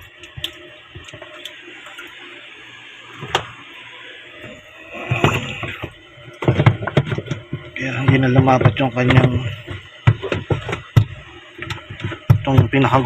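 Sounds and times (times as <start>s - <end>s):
water draining from washing machine: 0.0s - 13.0s.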